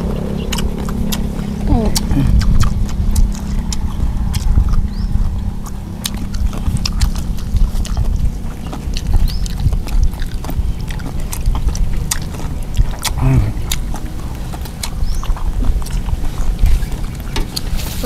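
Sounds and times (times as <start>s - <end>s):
chewing and lip smacking: 0.0s - 18.0s
steady low rumble: 0.0s - 18.0s.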